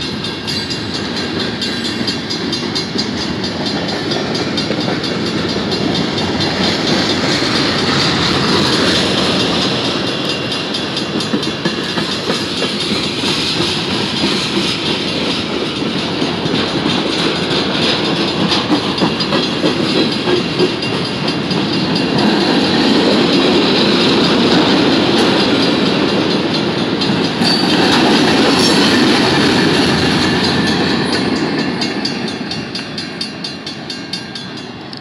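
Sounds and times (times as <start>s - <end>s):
crossing bell ringing: 0.0s - 35.0s
train wheels clattering on rails: 0.0s - 35.0s.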